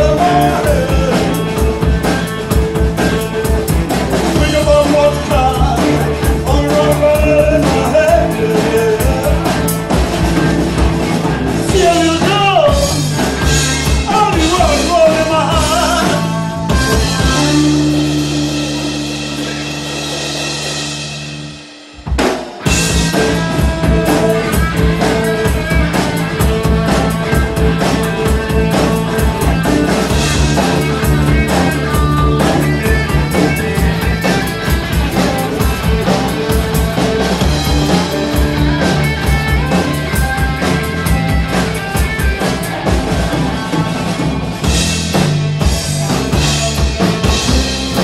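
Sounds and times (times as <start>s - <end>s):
drum beat: 0.0s - 48.0s
electric guitars: 0.0s - 48.0s
rock band playing: 0.0s - 48.0s.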